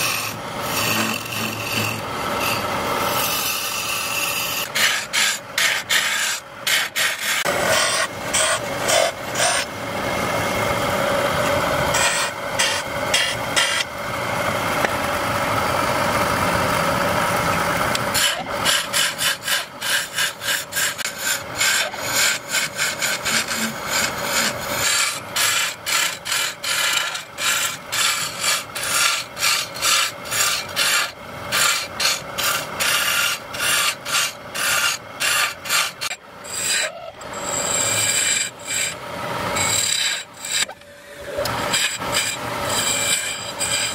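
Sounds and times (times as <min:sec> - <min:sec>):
lathe chisel cutting wood: 0:00.0 - 0:43.9.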